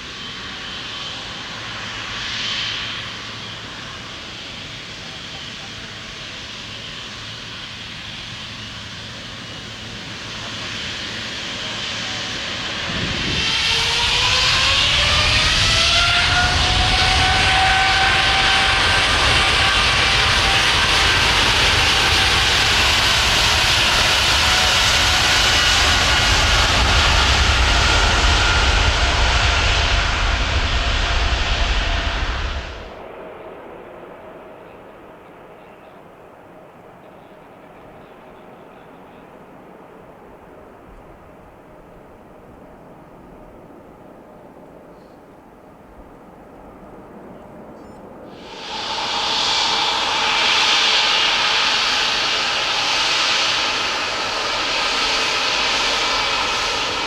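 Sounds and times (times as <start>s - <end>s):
jet engine whine rising: 0.0s - 36.0s, 46.6s - 57.0s.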